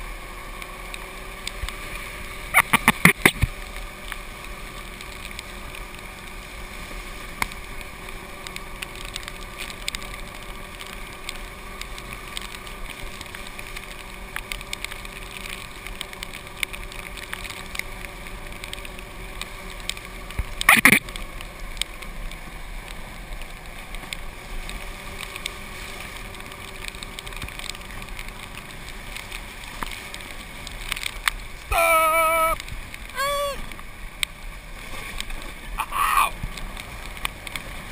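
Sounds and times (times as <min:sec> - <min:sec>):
golf cart whirring: 0:00.0 - 0:31.7.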